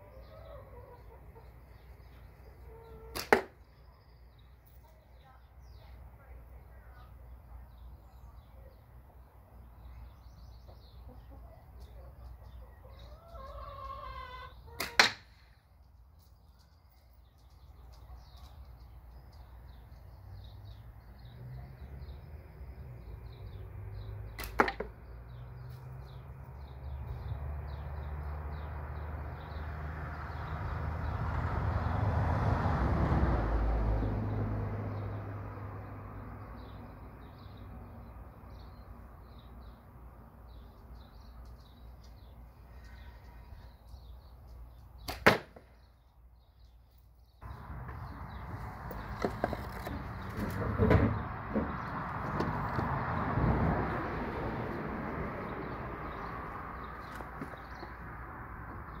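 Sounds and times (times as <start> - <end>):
small birds chirping: 0.0 - 31.3, 34.9 - 59.0.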